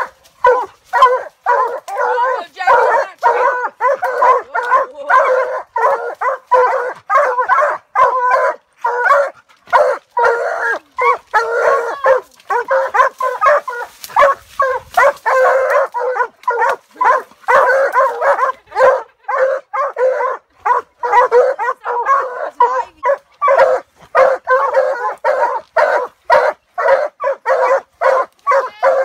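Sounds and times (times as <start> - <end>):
hounds barking rapidly: 0.0 - 29.0.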